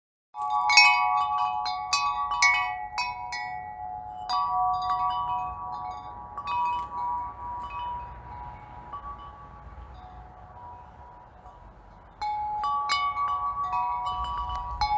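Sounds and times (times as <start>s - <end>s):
chimes ringing: 0.4s - 14.9s.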